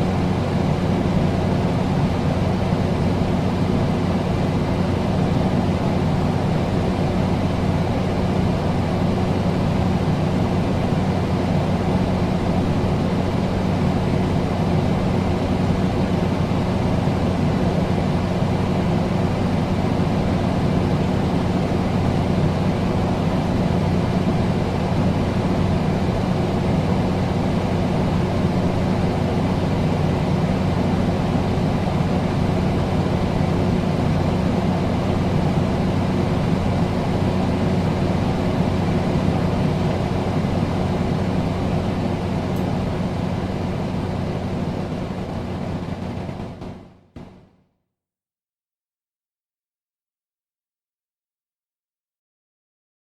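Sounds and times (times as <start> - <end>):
air conditioner running: 0.0 - 47.4.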